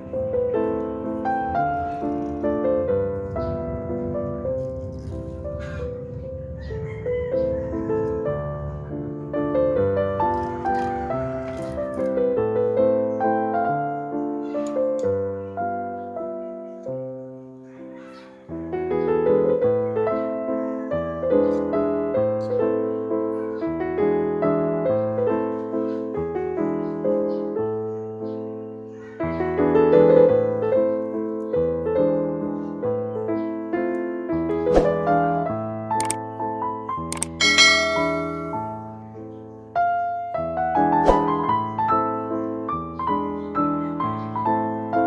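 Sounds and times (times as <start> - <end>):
slow piano music: 0.0 - 45.0.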